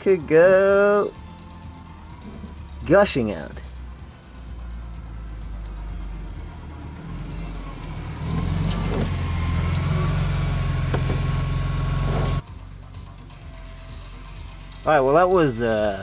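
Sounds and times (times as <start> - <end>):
low engine-like rumble: 1.0 - 16.0.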